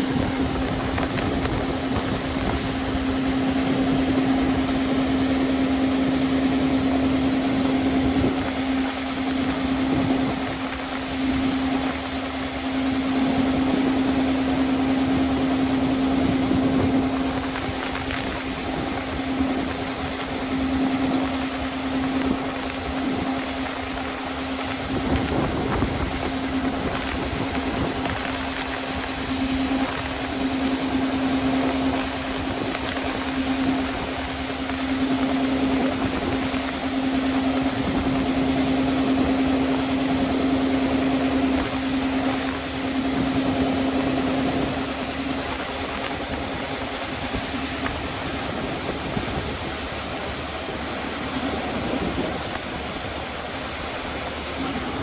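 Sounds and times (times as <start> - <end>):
harvest machinery engine drone: 0.0 - 55.0.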